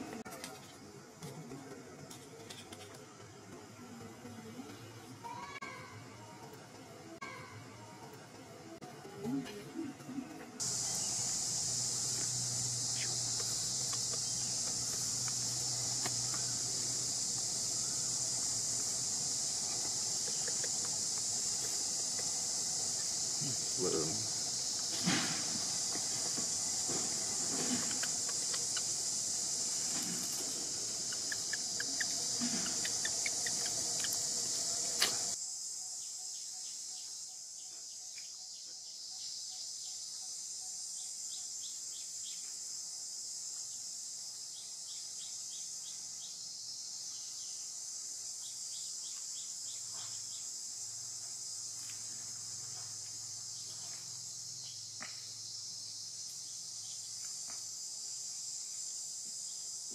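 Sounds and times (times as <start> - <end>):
low background noise: 0.0 - 59.9
high-pitched insect drone: 2.1 - 59.9.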